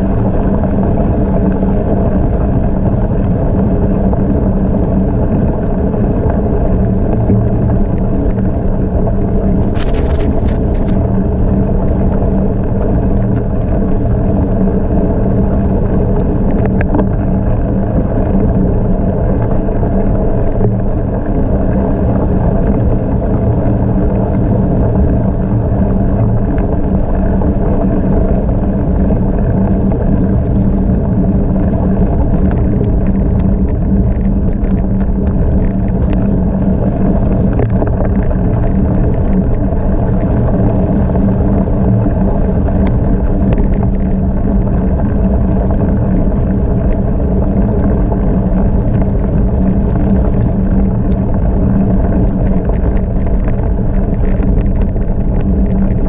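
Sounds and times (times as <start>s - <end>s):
bicycle tyres rolling on gravel: 0.0s - 56.0s
wind rushing over microphone: 0.0s - 56.0s.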